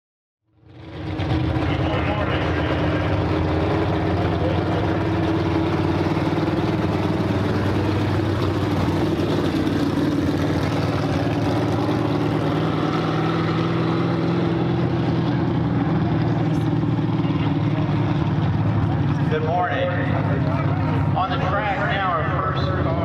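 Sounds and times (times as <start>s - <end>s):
race car engine driving past: 0.6s - 23.0s.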